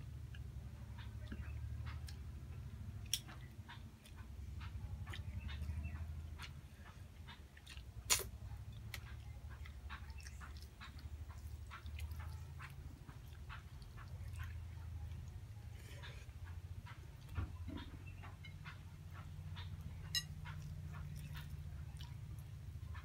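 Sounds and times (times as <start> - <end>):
fingers mixing rice wet squelches: 0.0 - 23.0.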